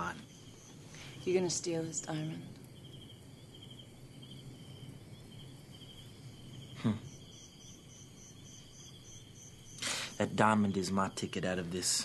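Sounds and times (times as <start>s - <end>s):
crickets chirping: 0.0s - 12.0s
higher-pitched cricket chirping: 0.0s - 12.0s.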